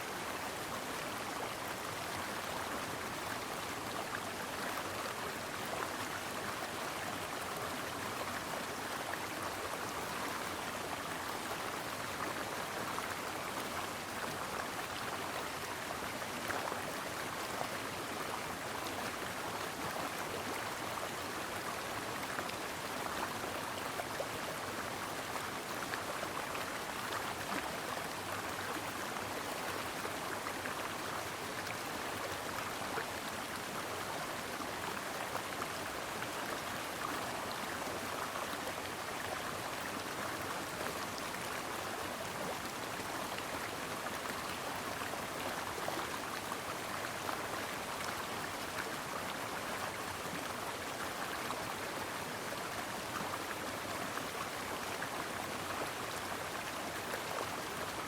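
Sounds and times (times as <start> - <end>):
stream water running over rocks: 0.0 - 58.0.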